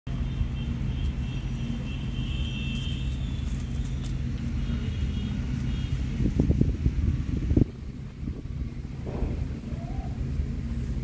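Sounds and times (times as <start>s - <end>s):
engine running steadily: 0.1s - 11.0s.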